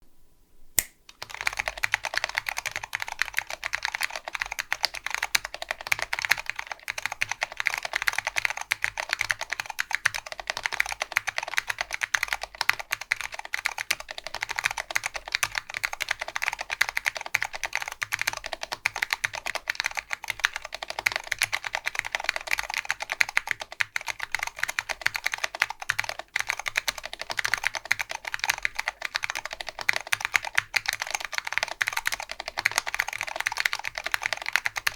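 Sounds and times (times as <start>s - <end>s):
fast typing on mechanical keyboard: 1.2s - 34.9s.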